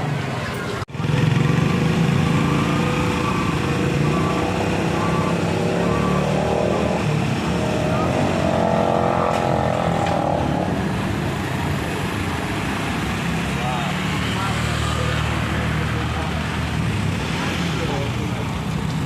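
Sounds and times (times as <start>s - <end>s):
motorcycle engines running: 0.0s - 19.0s
people's voices: 0.0s - 19.0s.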